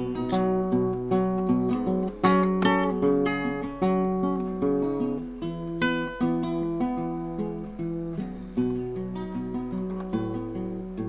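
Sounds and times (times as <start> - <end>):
acoustic guitar picking and strumming: 0.0 - 11.0.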